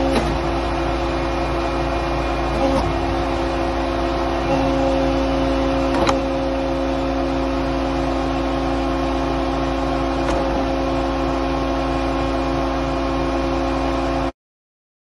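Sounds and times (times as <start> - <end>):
hydraulic power unit humming: 0.0 - 14.3.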